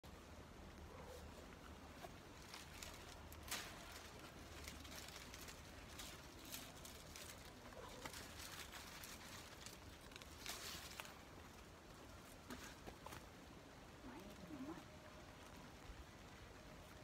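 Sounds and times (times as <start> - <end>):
quiet outdoor ambience: 0.0 - 17.0
rustling of vine leaves: 0.0 - 17.0.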